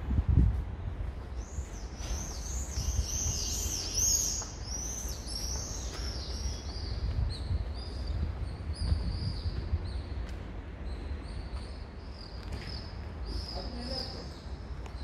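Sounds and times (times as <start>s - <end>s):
small birds chirping: 1.2s - 15.0s.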